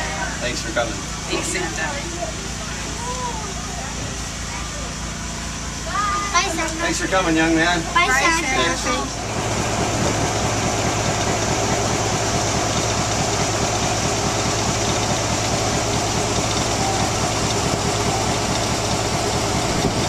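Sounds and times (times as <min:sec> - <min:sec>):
diesel locomotive engine idling: 0:00.0 - 0:20.0.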